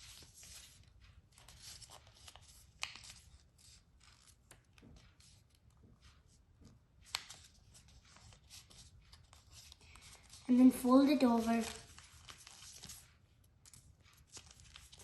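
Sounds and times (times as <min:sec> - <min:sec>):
paper being folded: 0:00.0 - 0:06.4, 0:07.0 - 0:15.0.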